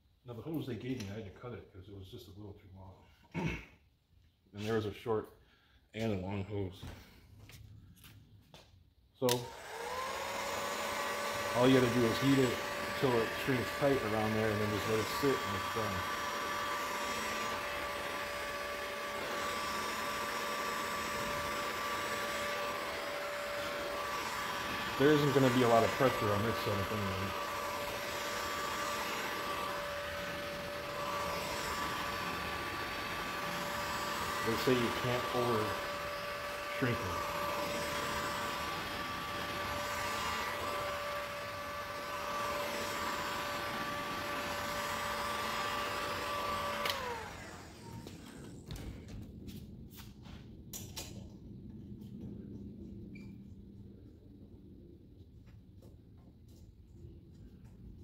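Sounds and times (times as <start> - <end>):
heat gun fan whining: 6.8 - 54.5.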